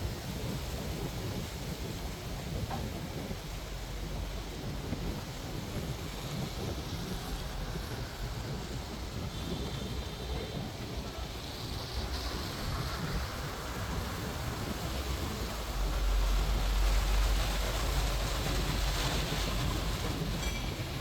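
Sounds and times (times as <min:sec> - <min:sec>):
steady rain: 0:00.0 - 0:21.0
wind rumbling on microphone: 0:00.0 - 0:21.0
street traffic: 0:02.0 - 0:21.0.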